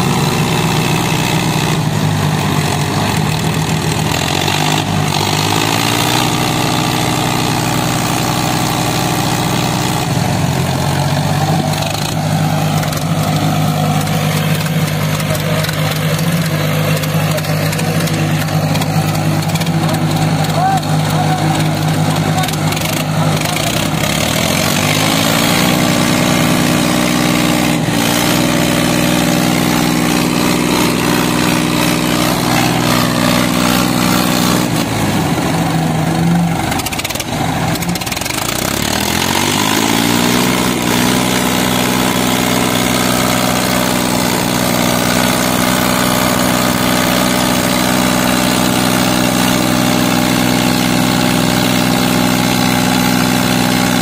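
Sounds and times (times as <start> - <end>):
tractor diesel engines labouring: 0.0 - 54.0.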